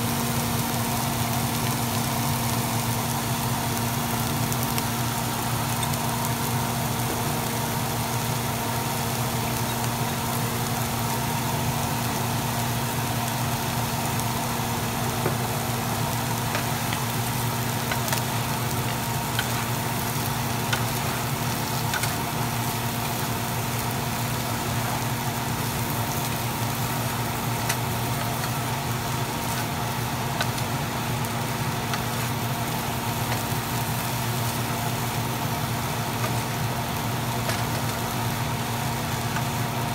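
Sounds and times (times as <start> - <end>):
fish sizzling in a frying pan: 0.0 - 39.9.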